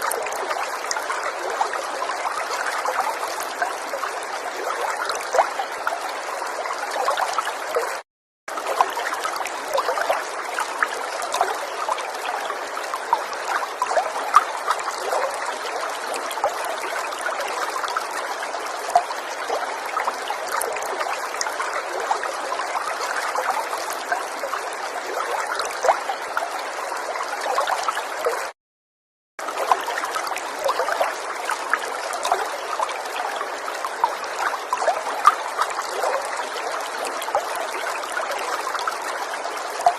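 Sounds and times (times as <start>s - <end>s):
river water flowing: 0.0s - 28.5s, 29.4s - 39.9s.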